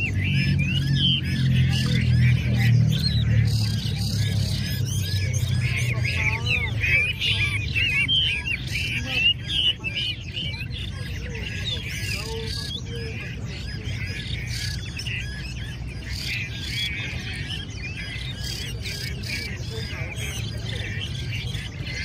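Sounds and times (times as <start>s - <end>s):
birds singing whistled notes: 0.0s - 22.0s.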